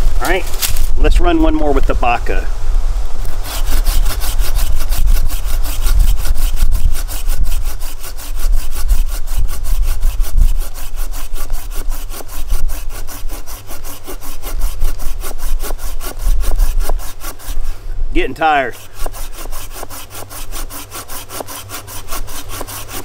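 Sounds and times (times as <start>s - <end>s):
hand saw cutting branch: 3.2s - 23.0s.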